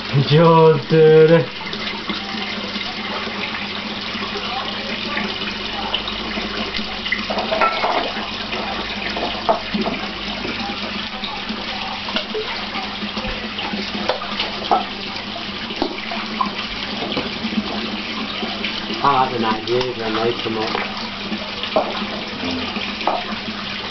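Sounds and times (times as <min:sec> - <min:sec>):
running water: 0:00.0 - 0:23.9.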